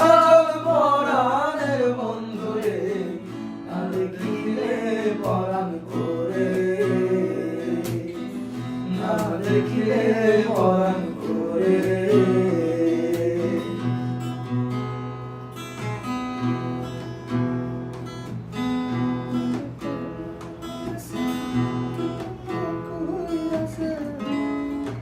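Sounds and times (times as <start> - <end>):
folk music with strummed guitar: 0.0 - 25.0.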